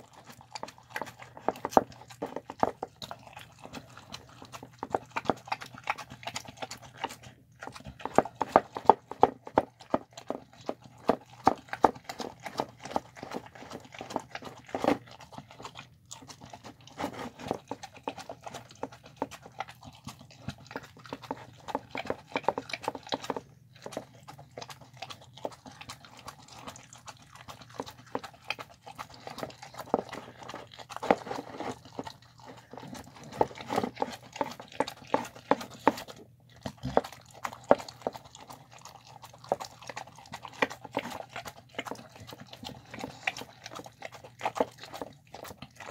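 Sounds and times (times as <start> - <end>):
dog chewing and smacking: 0.0 - 45.9.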